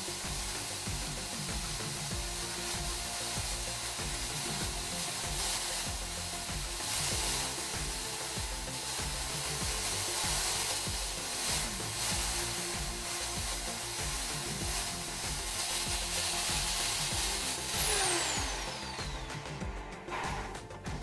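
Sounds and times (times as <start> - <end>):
tool rasping against spinning blank: 0.0 - 19.2
electric drill running: 0.0 - 21.0.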